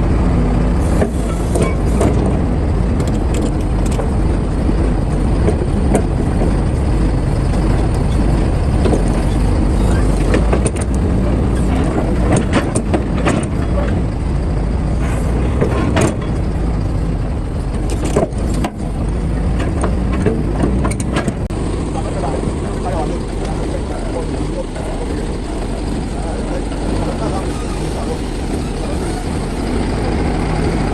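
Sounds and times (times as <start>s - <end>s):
diesel machinery low rumble: 0.0s - 30.9s.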